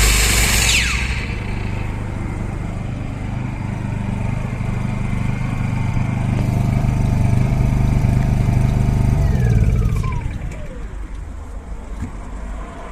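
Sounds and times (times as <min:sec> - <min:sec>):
falling whine of engine stopping: 0:00.0 - 0:11.8
generator engine running: 0:00.0 - 0:11.8.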